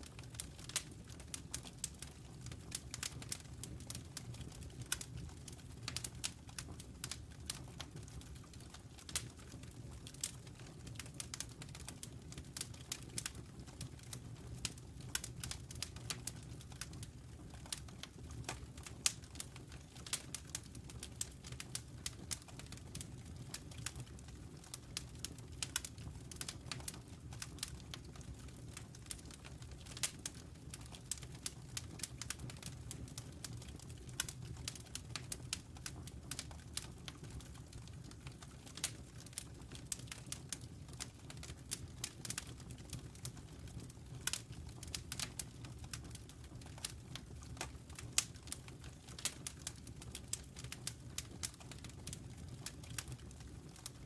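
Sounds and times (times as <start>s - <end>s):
logs crackling and popping: 0.0s - 54.0s
low rumble of flames: 0.0s - 54.0s.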